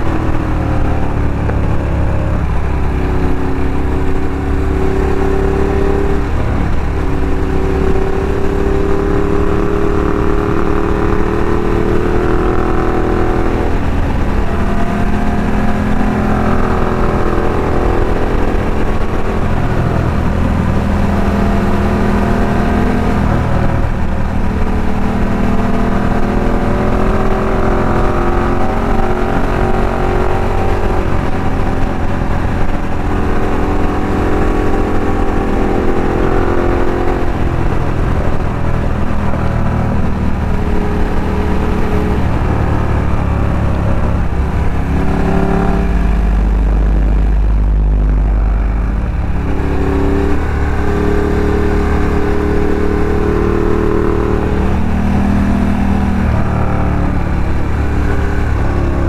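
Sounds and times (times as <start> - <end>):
motorcycle engine at road speed: 0.0 - 59.0.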